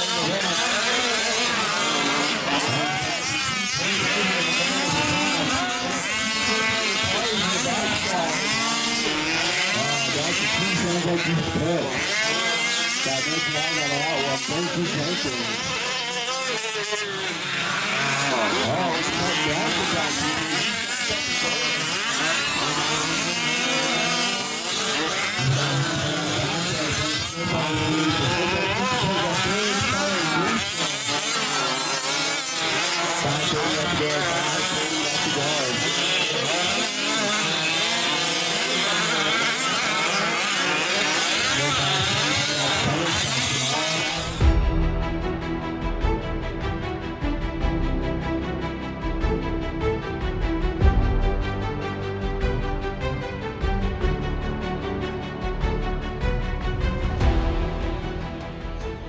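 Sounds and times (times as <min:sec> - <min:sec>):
small engines whining and revving: 0:00.0 - 0:59.0.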